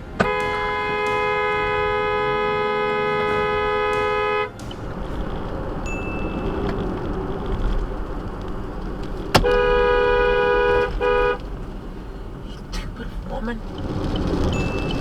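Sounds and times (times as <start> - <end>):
car horn blasts: 0.0 - 12.8
road noise: 0.1 - 15.0.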